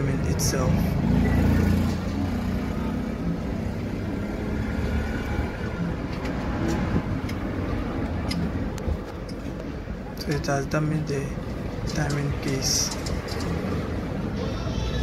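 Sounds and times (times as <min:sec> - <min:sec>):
motor vehicle engine rumble: 0:00.0 - 0:15.0.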